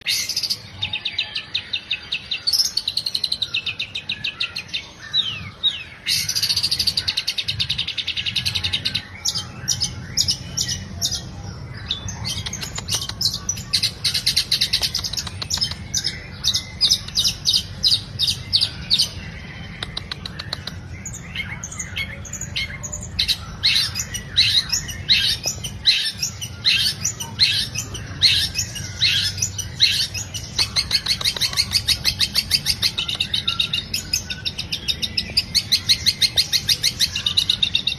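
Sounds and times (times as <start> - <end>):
shrike chattering song: 0.0 - 37.9.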